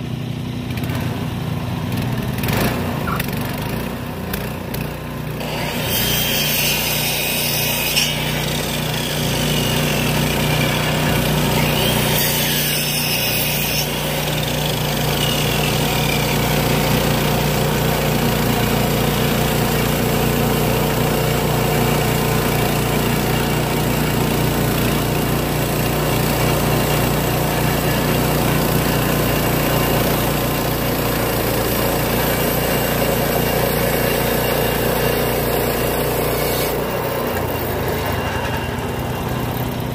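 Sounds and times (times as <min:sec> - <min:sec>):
bandsaw mill engine running: 0:00.0 - 0:39.9
band blade cutting timber: 0:02.0 - 0:39.9.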